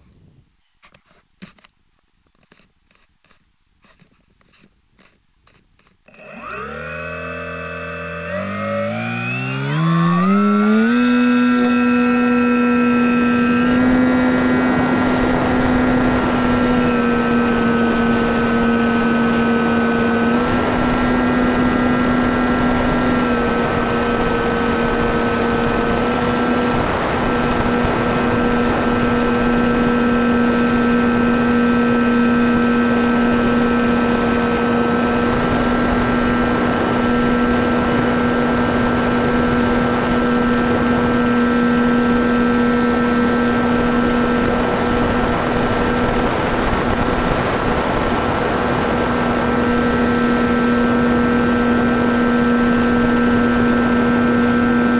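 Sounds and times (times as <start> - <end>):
electric motor high-pitched drone: 6.1 - 54.9.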